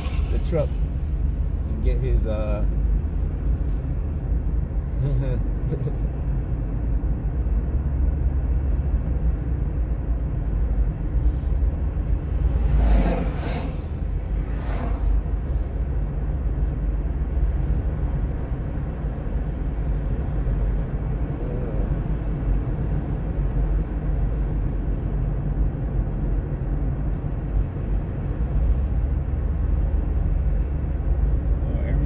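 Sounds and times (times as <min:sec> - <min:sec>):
road and engine noise in car: 0:00.0 - 0:32.0.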